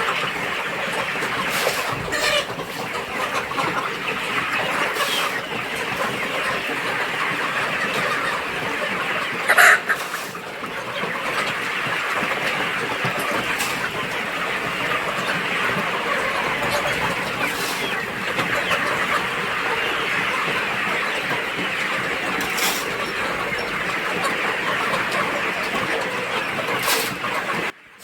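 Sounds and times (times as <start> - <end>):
young chickens clucking: 0.0 - 28.0.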